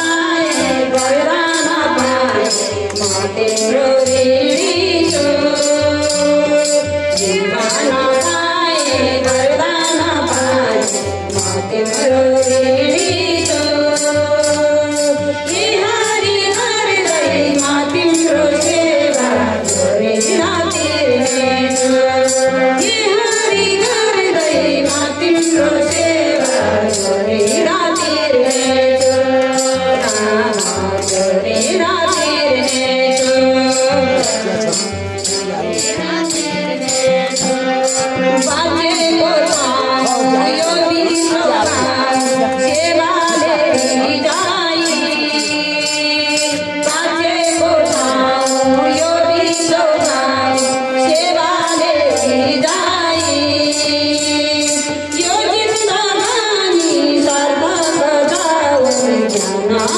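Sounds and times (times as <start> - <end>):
hand drum: 0.0 - 59.9
quick percussive beat: 0.0 - 59.9
women singing together: 0.0 - 59.9.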